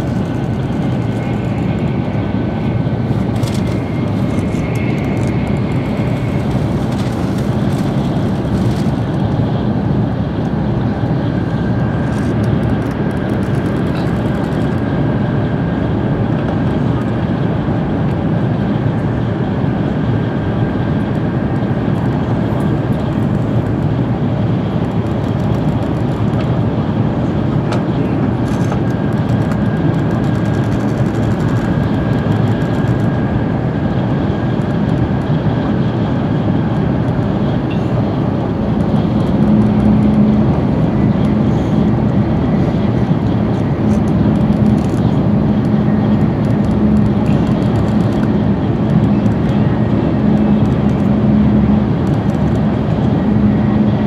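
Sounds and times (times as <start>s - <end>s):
pulsing low hum: 0.0s - 54.0s
train rumble inside carriage: 0.0s - 54.0s.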